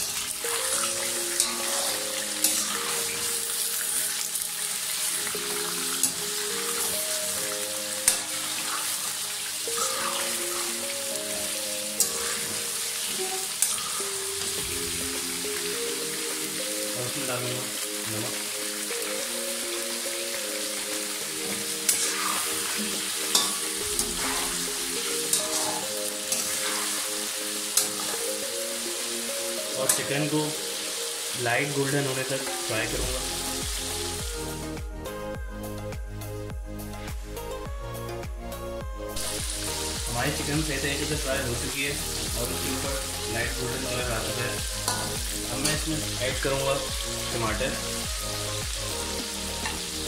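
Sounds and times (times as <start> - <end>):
chicken sizzling in hot oil: 0.0 - 34.6, 39.2 - 50.0
background music with held notes: 0.0 - 50.0.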